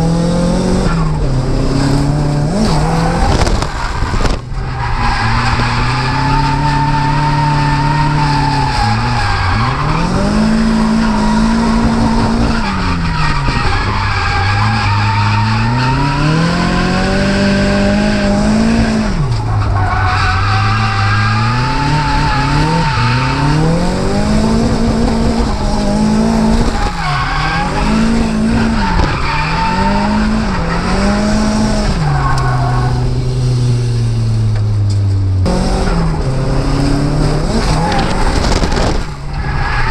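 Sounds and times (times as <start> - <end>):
car engine revving hard: 0.0 - 19.5, 20.2 - 34.3, 35.4 - 39.9.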